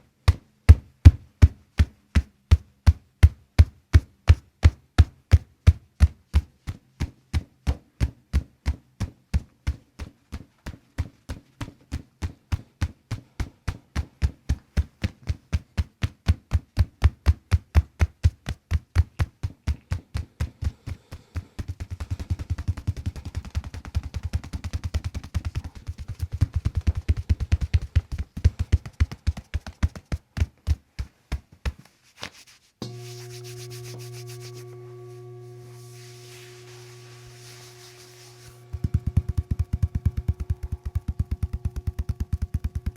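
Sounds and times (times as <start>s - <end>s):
sharp percussive taps on body: 0.2s - 33.0s, 38.7s - 42.9s.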